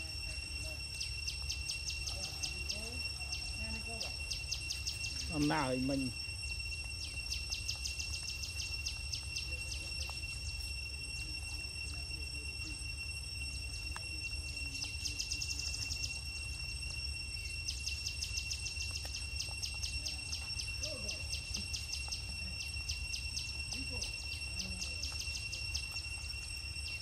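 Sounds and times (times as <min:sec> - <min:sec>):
insect pulsing chirp: 0:00.0 - 0:27.0
insects droning: 0:00.0 - 0:27.0.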